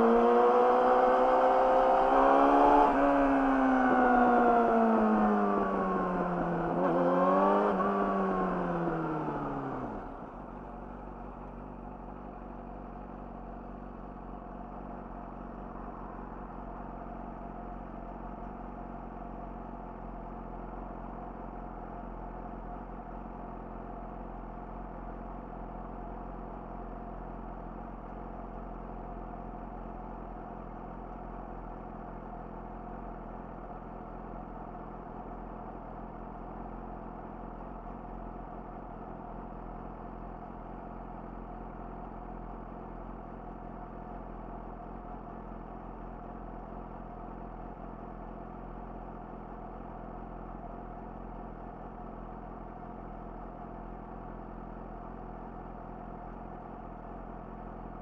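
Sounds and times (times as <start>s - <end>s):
motorcycle engine revving and idling: 0.0s - 58.0s.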